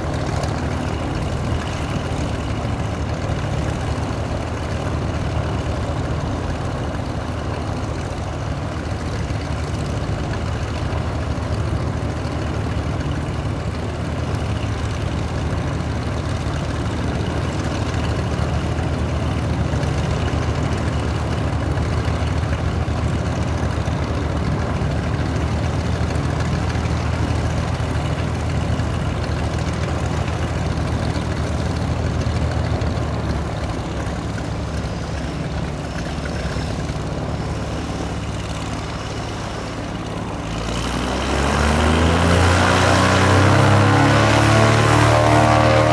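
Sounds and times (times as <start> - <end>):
propeller aircraft engines droning: 0.0 - 45.9.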